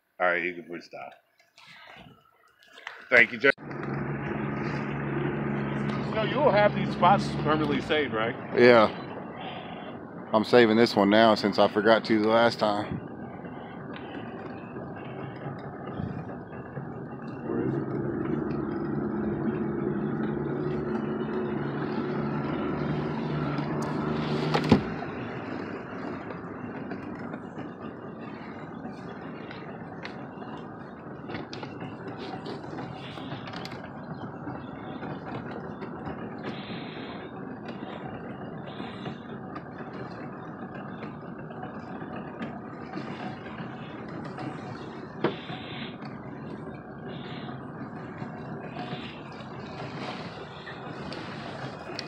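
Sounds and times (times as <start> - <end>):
boat motor running: 0.4 - 52.0.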